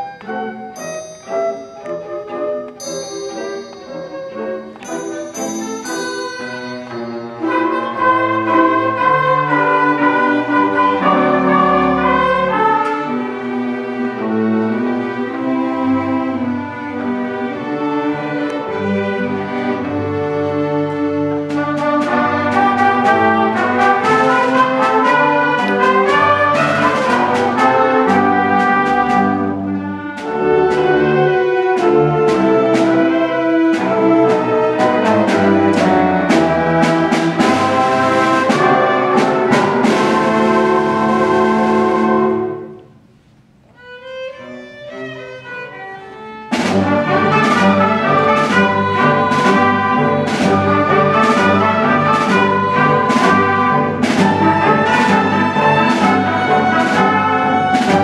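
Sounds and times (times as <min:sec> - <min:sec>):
orchestra playing lively piece: 0:00.0 - 0:58.0.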